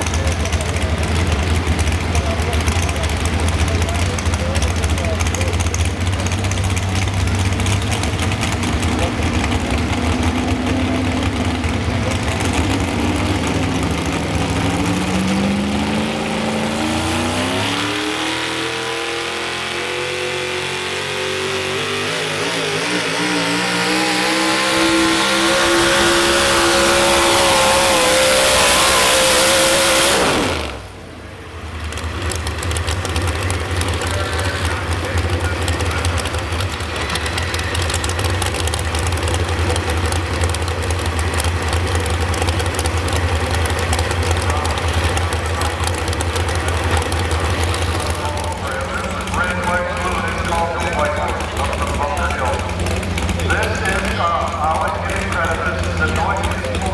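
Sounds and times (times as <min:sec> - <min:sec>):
truck engine revving under load: 0:00.0 - 0:56.9.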